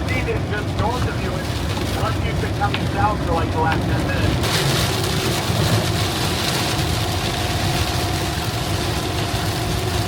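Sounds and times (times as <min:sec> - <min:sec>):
car engine rumble inside cabin: 0:00.0 - 0:10.0.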